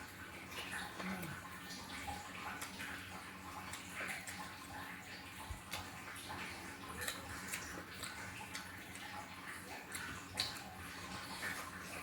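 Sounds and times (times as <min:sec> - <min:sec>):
wet chewing and smacking: 0:00.0 - 0:12.0.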